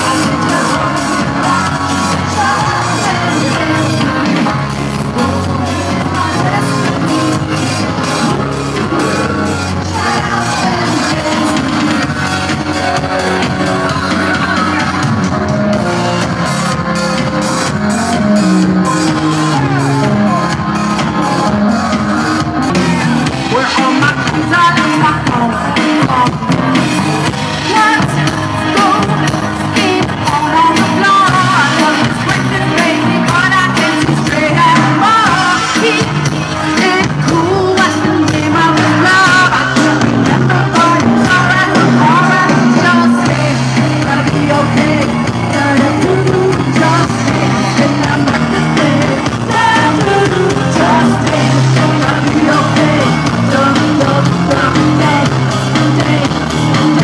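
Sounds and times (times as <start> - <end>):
lead singer singing: 0.0 - 57.0
live band playing: 0.0 - 57.0.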